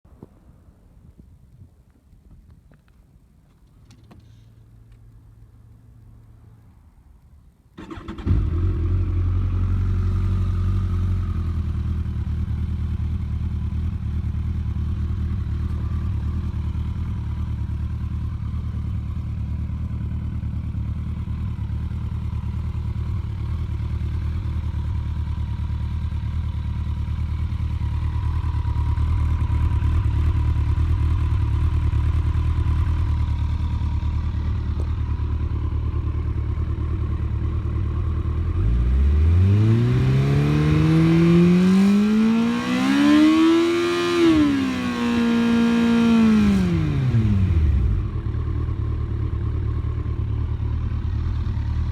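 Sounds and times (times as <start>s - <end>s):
motorcycle engine starting and idling: 7.7s - 51.9s.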